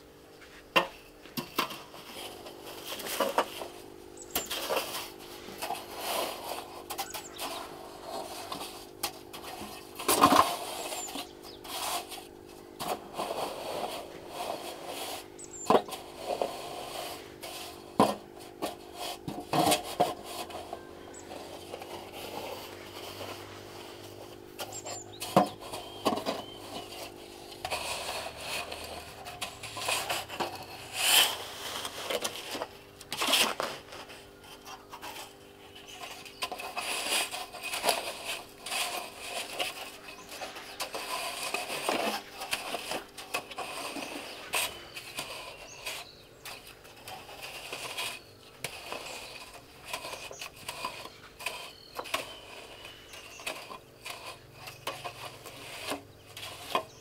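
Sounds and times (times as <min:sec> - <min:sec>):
hand tools scraping and rubbing: 0:00.0 - 0:57.0.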